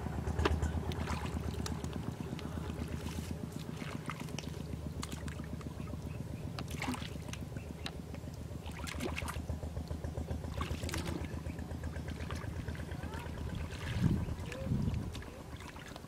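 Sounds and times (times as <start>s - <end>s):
low motor drone: 0.0s - 16.0s
hands splashing in muddy water: 0.8s - 6.0s, 6.6s - 9.5s, 10.5s - 11.4s, 12.1s - 16.0s.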